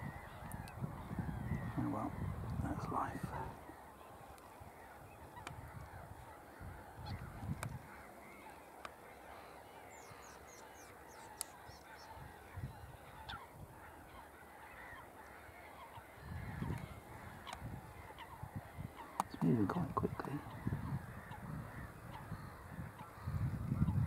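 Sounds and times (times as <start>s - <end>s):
geese honking: 0.0s - 24.0s.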